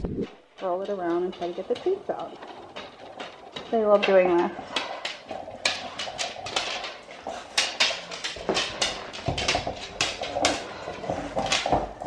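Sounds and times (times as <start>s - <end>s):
dog claws on floor: 0.3s - 12.0s.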